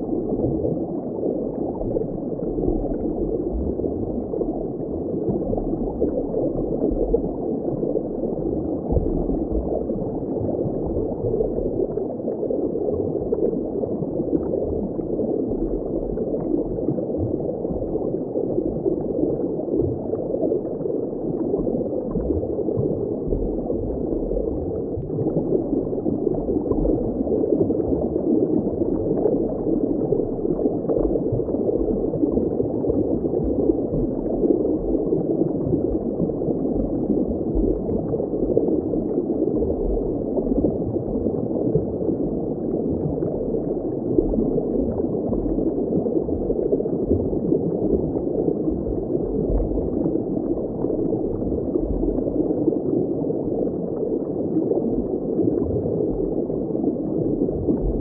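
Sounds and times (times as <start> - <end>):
muffled water bubbling: 0.0 - 58.0.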